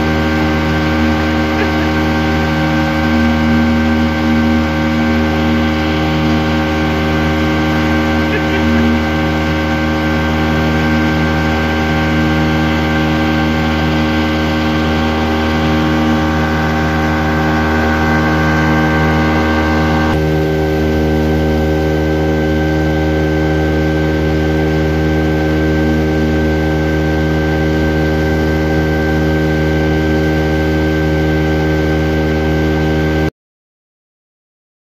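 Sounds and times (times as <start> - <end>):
outboard motor droning: 0.0 - 33.3.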